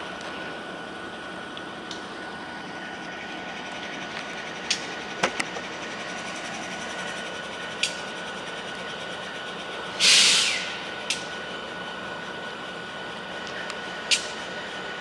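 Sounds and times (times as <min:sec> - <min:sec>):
work train running noise: 0:00.0 - 0:15.0.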